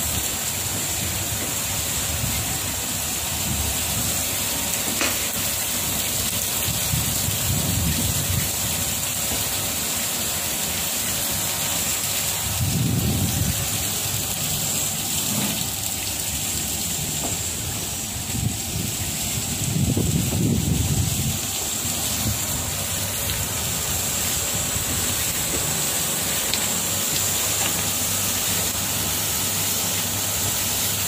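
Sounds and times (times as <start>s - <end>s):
water spraying from jets: 0.0s - 31.0s.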